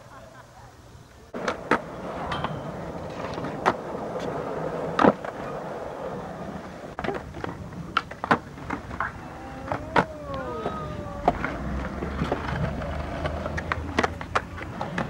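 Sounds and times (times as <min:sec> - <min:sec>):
skateboard wheels rolling on concrete: 0:01.0 - 0:15.0
skateboard clacking on ground: 0:01.3 - 0:15.0.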